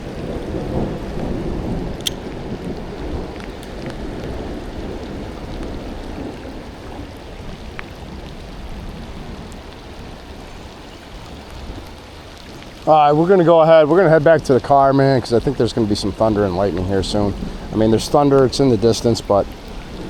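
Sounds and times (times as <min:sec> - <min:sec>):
distant thunder rumbling: 0:00.0 - 0:11.9, 0:15.3 - 0:20.0
rain falling: 0:00.0 - 0:20.0.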